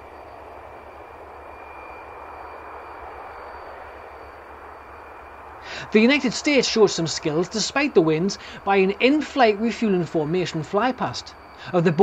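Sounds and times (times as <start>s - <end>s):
turboprop engines whining: 0.0s - 12.0s.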